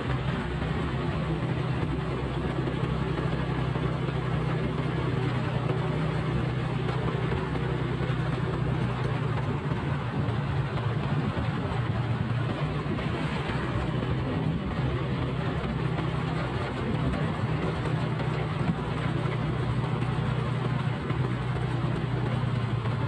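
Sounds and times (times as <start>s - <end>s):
motorcycle engine humming: 0.0s - 23.0s
road noise rushing: 0.0s - 23.0s.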